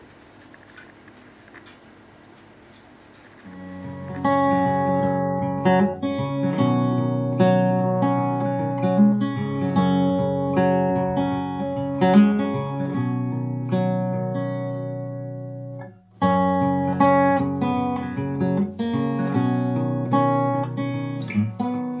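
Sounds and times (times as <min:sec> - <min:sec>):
acoustic guitar strumming: 0:03.5 - 0:22.0.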